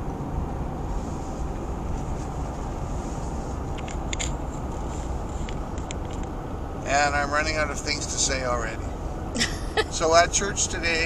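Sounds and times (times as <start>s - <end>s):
engine and road noise in cab: 0.0s - 11.0s.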